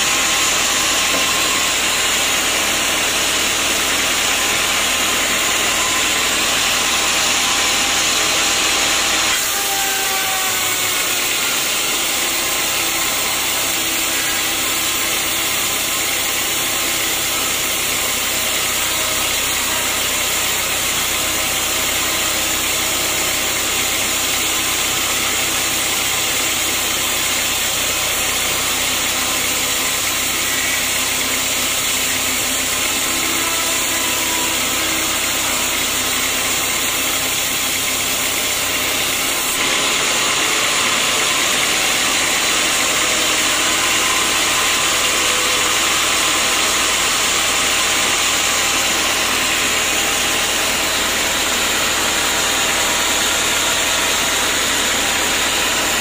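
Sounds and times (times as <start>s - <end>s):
band saw cutting a log: 0.0s - 56.0s.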